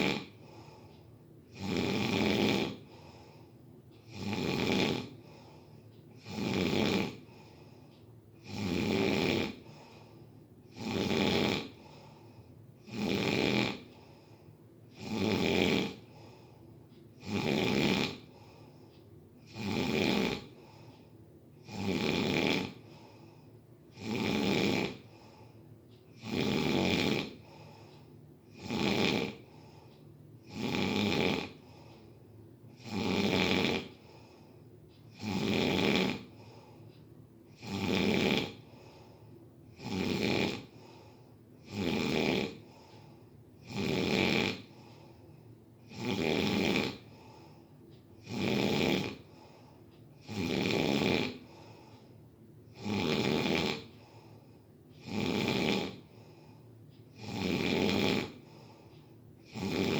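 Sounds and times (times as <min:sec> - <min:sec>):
rhythmic snoring: 0:00.0 - 0:59.9.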